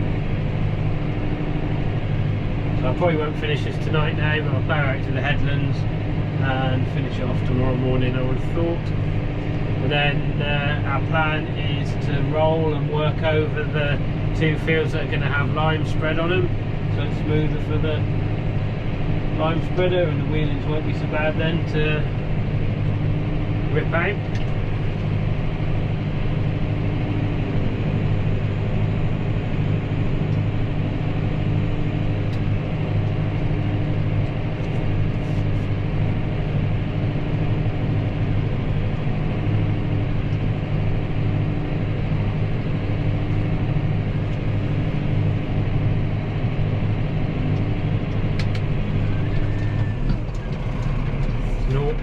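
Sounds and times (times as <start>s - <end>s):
tractor diesel engine drone: 0.0s - 52.0s.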